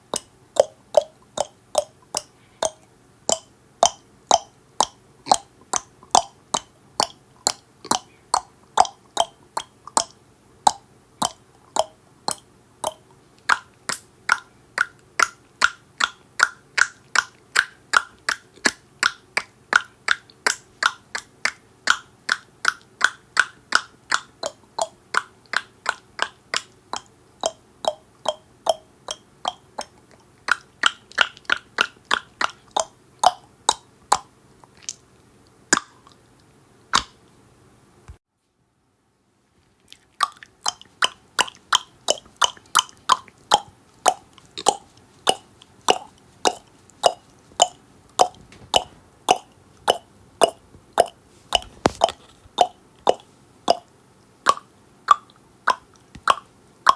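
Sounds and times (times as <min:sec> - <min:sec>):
person clicking tongue: 0:00.0 - 0:35.0, 0:35.7 - 0:36.2, 0:36.9 - 0:37.2, 0:39.9 - 0:53.9, 0:54.5 - 0:56.9.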